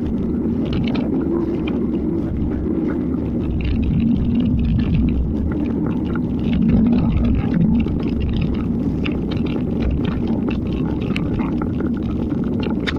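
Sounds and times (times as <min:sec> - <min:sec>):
wind rumbling on microphone: 0:00.0 - 0:12.9.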